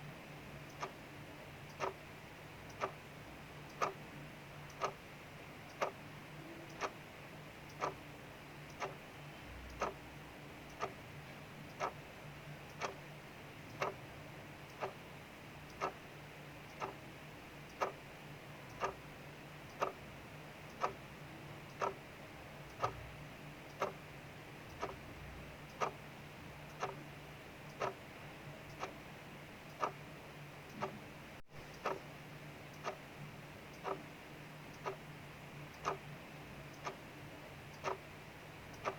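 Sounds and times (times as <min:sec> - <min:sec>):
mechanical clock ticking: 0:00.6 - 0:38.9.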